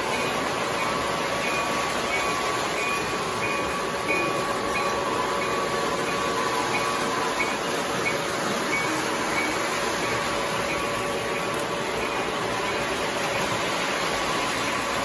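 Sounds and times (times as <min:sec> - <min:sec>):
model train rolling rumble: 0:00.0 - 0:15.0.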